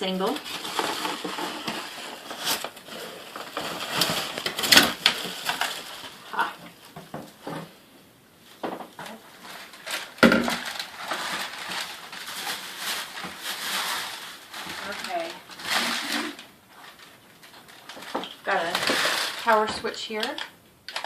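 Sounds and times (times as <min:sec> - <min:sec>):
cardboard and plastic rustling: 0:00.0 - 0:21.0.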